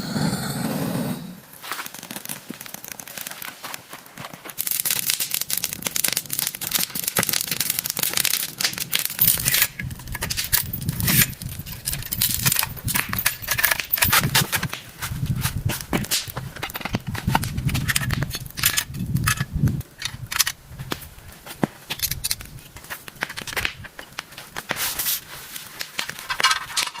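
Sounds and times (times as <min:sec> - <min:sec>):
dense crackling clicks: 0:01.5 - 0:27.0.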